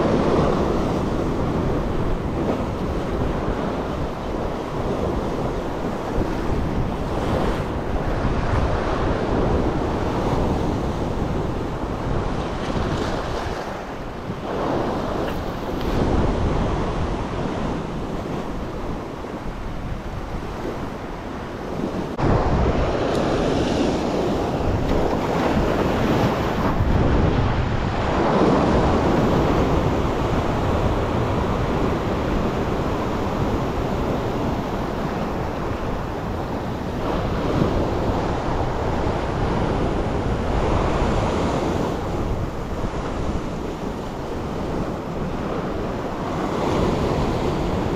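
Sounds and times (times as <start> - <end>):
ocean waves washing over rocks: 0.0 - 47.9
wind buffeting microphone: 0.0 - 47.9.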